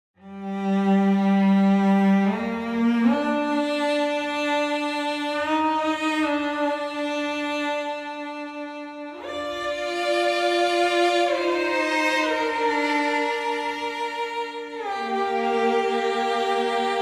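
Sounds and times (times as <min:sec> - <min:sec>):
slow bowed cello notes: 0:00.2 - 0:17.0.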